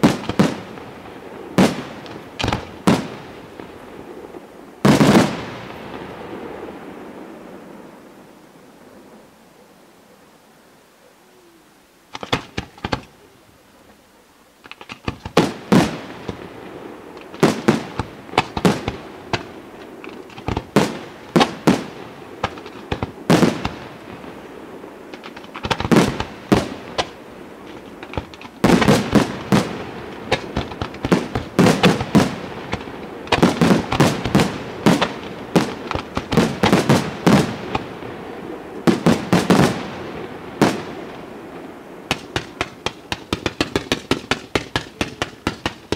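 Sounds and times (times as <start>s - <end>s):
fireworks bangs and crackles: 0.0s - 7.9s, 12.1s - 13.2s, 14.6s - 45.9s.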